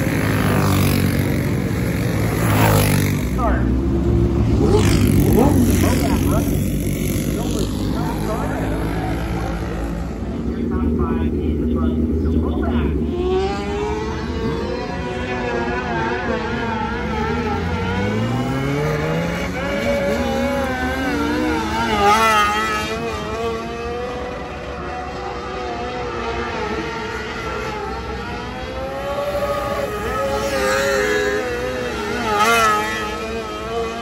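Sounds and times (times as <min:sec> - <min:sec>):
motorcycle engines at high revs: 0:00.0 - 0:34.0.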